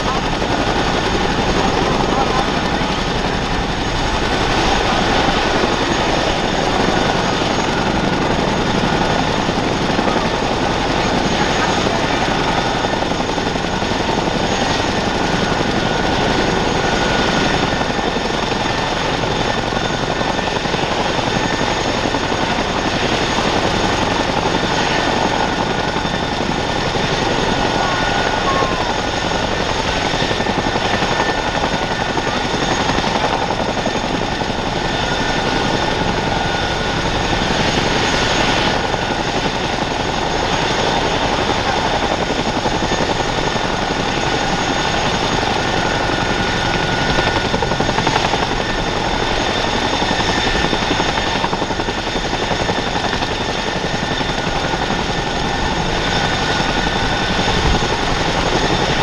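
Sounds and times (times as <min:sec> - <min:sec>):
helicopter rotor and engine rush: 0:00.0 - 0:59.0
high turbine whine: 0:00.0 - 0:59.0.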